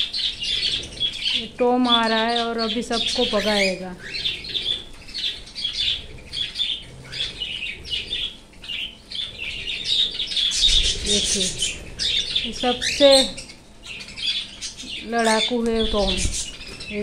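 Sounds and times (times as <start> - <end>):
parrots chirping and squawking: 0.0 - 17.0.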